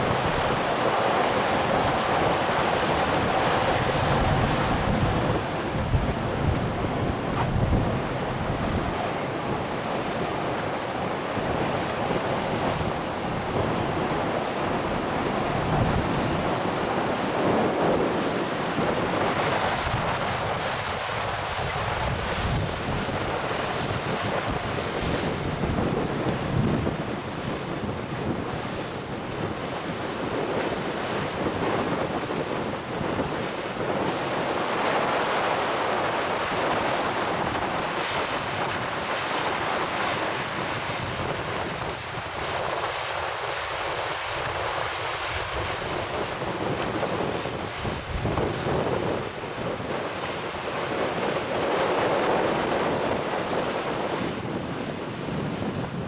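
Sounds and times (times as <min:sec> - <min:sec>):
water rushing past boat: 0:00.0 - 0:56.0
wind buffeting microphone: 0:00.0 - 0:56.0.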